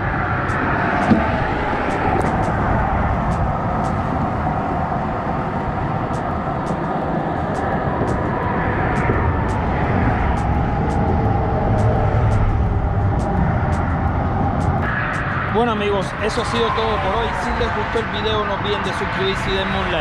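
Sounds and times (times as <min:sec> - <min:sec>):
engine rumble with held tones: 0:00.0 - 0:20.0.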